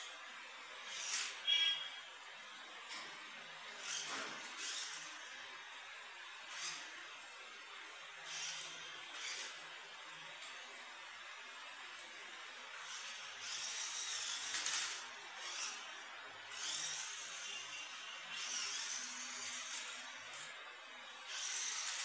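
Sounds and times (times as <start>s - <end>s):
toy car motor whirring: 0.0s - 22.0s.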